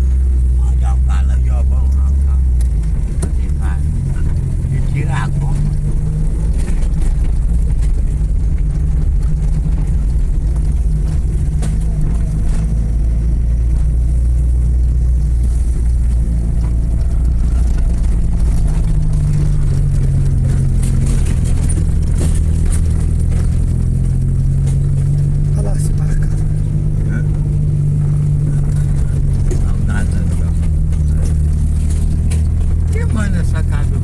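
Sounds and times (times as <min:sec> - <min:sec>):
vehicle engine droning: 0:00.0 - 0:34.0
light rattles: 0:01.2 - 0:34.0.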